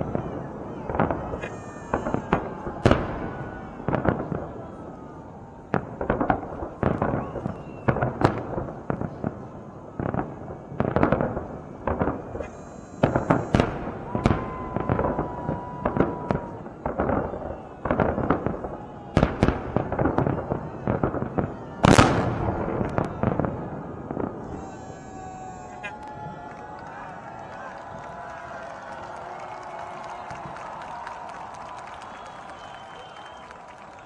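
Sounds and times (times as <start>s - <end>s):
fireworks bursting with echo: 0.0s - 28.4s.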